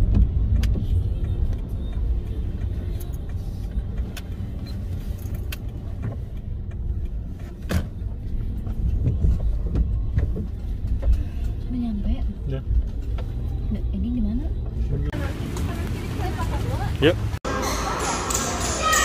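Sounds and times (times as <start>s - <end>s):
car engine and tyres rumbling: 0.0s - 18.9s.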